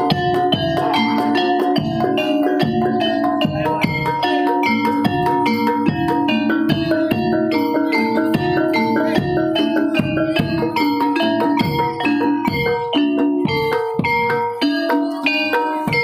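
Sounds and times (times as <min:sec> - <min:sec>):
drum strokes: 0:00.0 - 0:16.0
metallophones ringing melody: 0:00.0 - 0:16.0.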